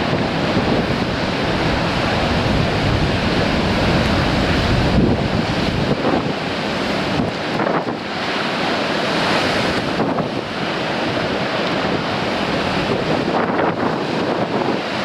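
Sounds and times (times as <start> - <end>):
surf breaking on rocks: 0.0 - 15.0
wind buffeting microphone: 0.0 - 15.0.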